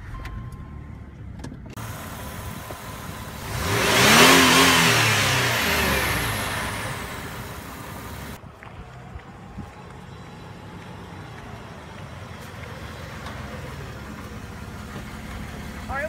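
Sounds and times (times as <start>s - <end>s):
car driving past: 1.8s - 15.9s.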